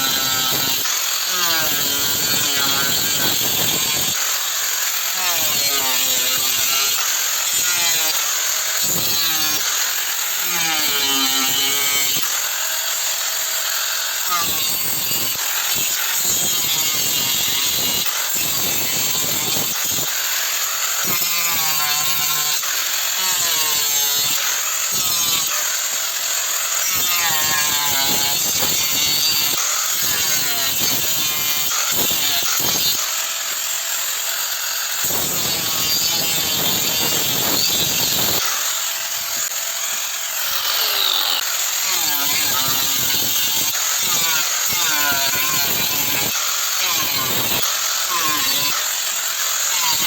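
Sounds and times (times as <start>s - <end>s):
saw cutting wood: 0.0s - 50.0s.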